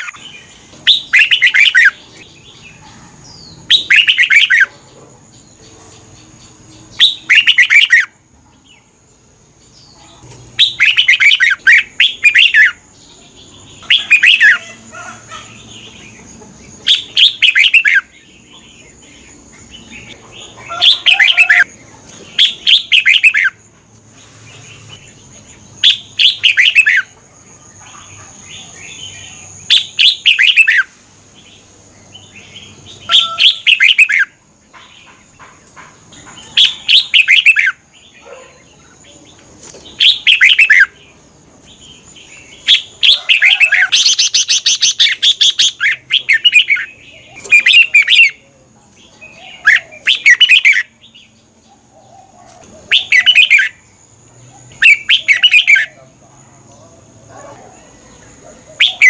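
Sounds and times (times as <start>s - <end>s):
bulbul singing warbled phrases: 0.0s - 35.5s, 36.1s - 59.0s.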